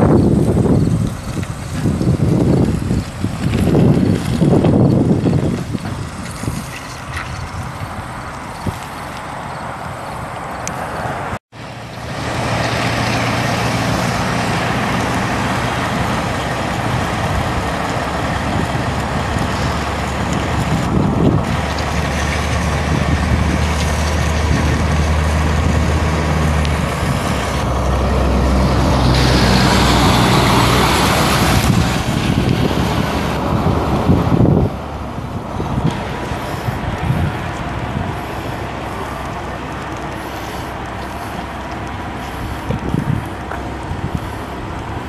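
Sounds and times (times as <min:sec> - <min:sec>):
road noise: 0:00.0 - 0:45.0
truck engine running: 0:00.0 - 0:45.0.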